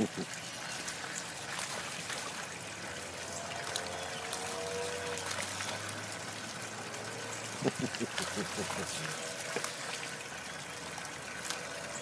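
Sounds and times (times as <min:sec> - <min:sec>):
dog splashing in muddy water: 0:00.7 - 0:12.0.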